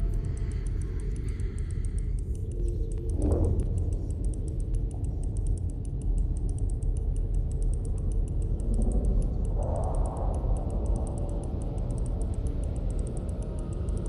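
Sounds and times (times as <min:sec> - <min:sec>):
faint high ticking: 0:00.0 - 0:14.0
low droning rumble: 0:00.0 - 0:14.0.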